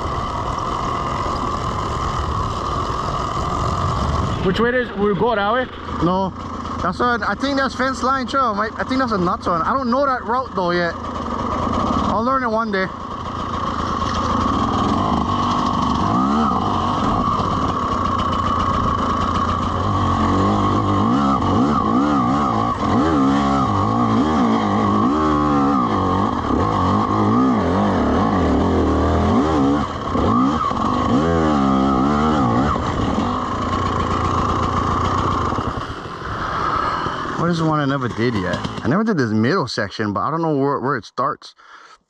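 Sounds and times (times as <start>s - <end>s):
dirt bike engine revving: 0.0s - 39.6s.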